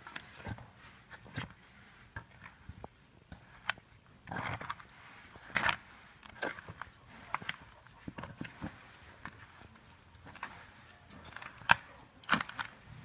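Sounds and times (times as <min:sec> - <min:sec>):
hand kneading wet bait mix: 0:00.0 - 0:13.0.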